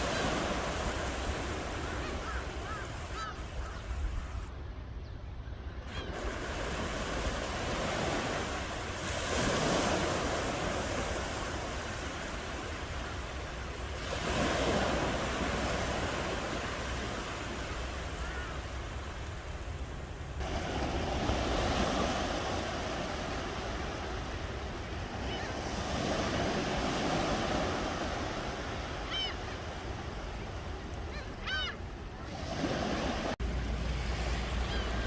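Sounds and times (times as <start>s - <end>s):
ocean waves breaking on shore: 0.0s - 5.0s, 5.6s - 35.0s.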